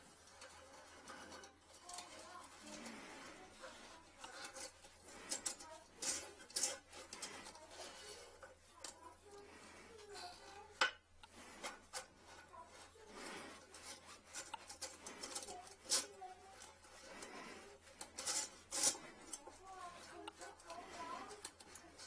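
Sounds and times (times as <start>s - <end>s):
wire scraping porcelain: 0.0s - 22.0s.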